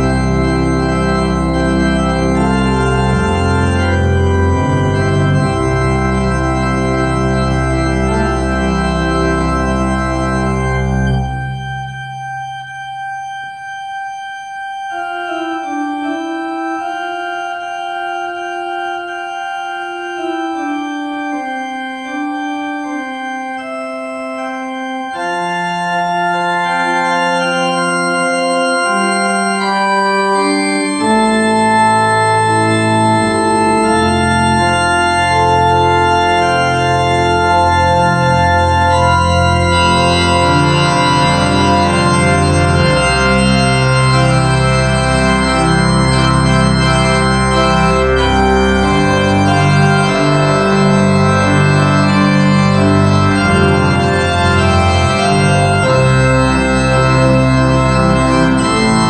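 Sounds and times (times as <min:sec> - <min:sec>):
organ playing sustained notes: 0:00.0 - 0:59.0.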